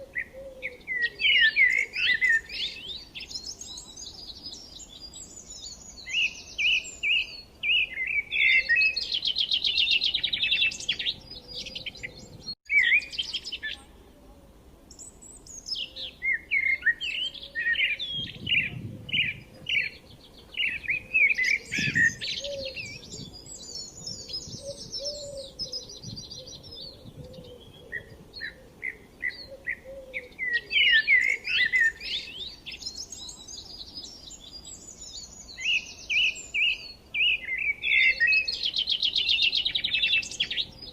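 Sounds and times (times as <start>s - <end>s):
birds chirping and singing: 0.0s - 13.9s, 14.9s - 40.9s.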